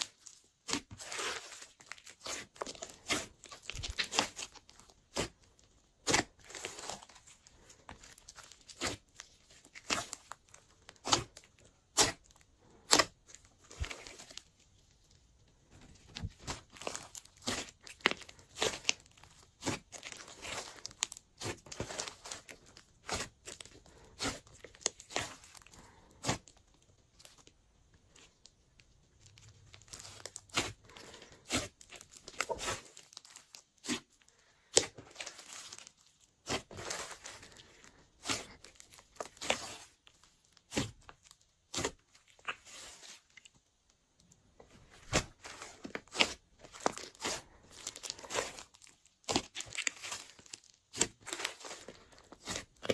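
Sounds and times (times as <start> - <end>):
slime squished by hand: 0.0 - 14.5, 16.0 - 52.9.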